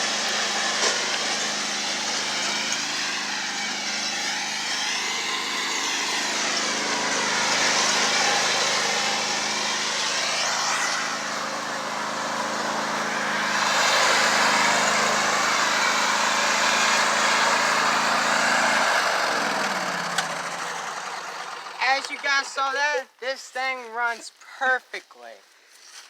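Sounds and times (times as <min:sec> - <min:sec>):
riding lawnmower engine: 0:00.0 - 0:22.9.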